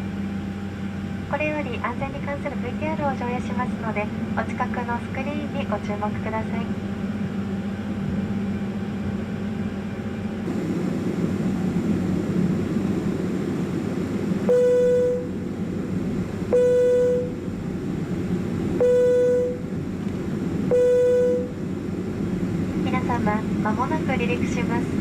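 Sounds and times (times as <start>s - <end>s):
aircraft cabin hum: 0.0s - 25.0s.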